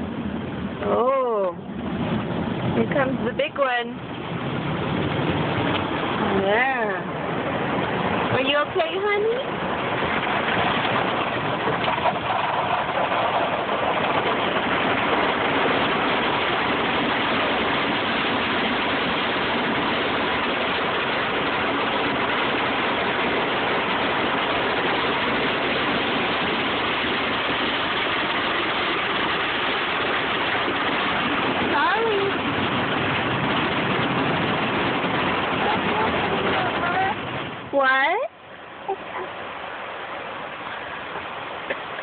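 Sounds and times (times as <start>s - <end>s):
car wash water and machinery: 0.0s - 42.0s.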